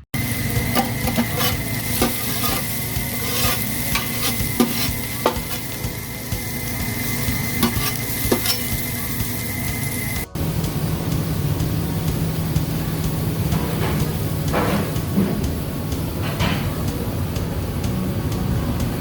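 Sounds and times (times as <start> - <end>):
food sizzling in a pan: 0.2 - 17.2.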